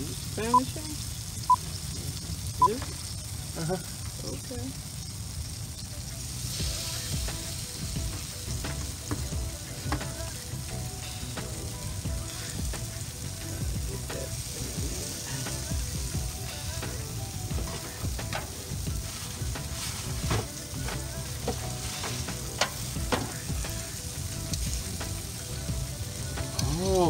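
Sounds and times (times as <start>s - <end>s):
food sizzling on a grill: 0.0s - 27.0s.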